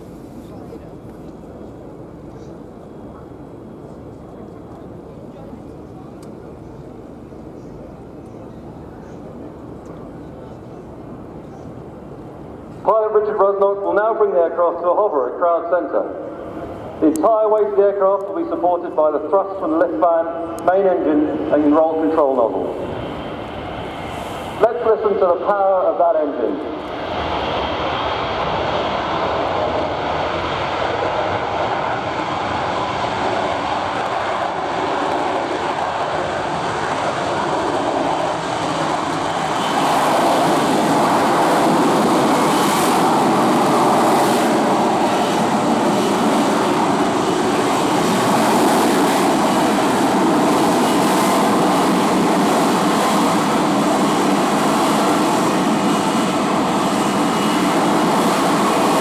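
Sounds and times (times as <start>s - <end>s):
loud steady jet noise: 0.0s - 59.0s.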